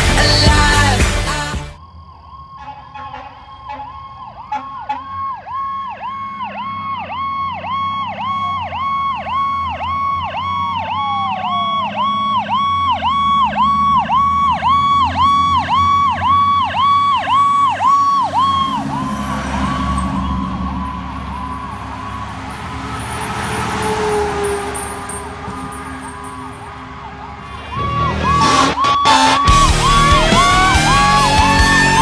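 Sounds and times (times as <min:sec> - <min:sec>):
engine low rumble: 0:01.8 - 0:28.6
fire engine siren fast warble: 0:01.8 - 0:32.0
slow siren tone gliding: 0:01.8 - 0:32.0.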